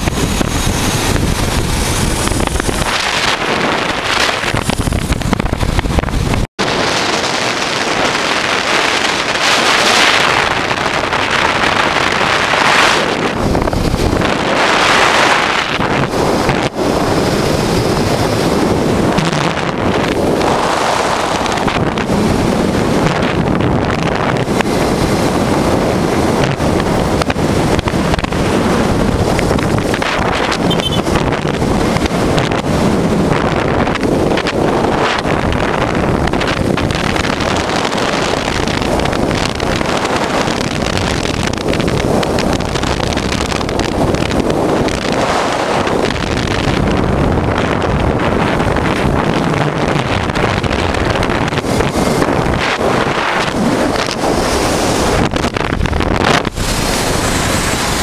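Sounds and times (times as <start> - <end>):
motorcycle riding: 0.0 - 58.0
wind buffeting microphone: 0.0 - 58.0.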